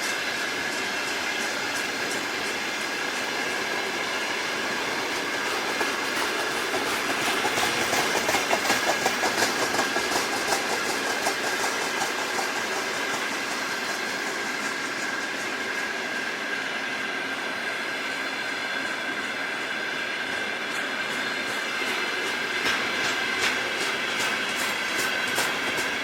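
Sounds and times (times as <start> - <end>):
train wheels clattering over rail joints: 0.6 - 16.2, 20.2 - 26.0.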